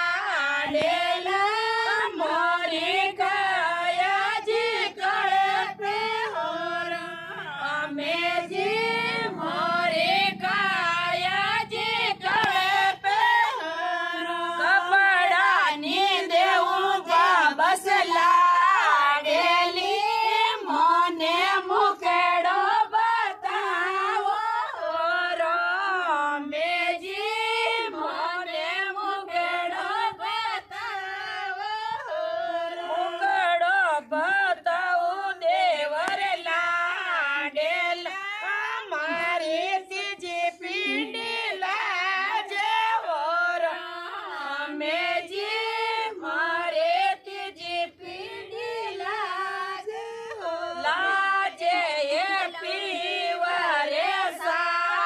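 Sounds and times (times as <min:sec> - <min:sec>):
women singing unaccompanied: 0:00.0 - 0:55.0.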